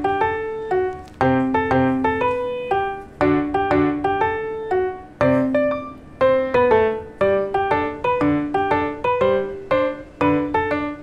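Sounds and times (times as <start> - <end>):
bright melody of struck notes: 0.0 - 11.0.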